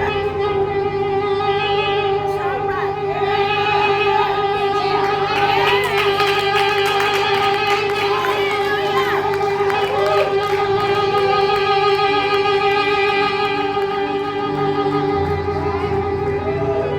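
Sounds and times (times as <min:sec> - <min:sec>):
held music chord: 0:00.0 - 0:16.9
voices singing or calling out: 0:00.0 - 0:16.9.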